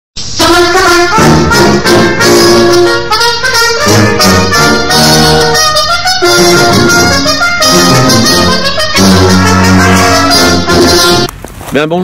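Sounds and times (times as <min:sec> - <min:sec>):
brass theme music: 0:00.2 - 0:11.3.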